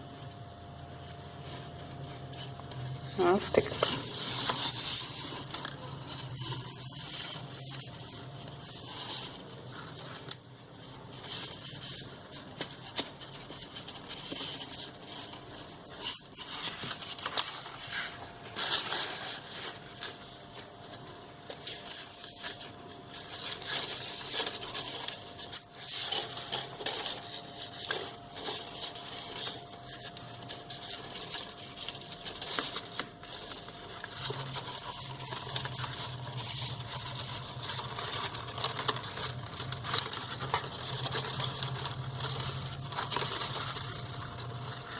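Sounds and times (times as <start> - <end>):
paper rustling and scraping: 0.1 - 44.9.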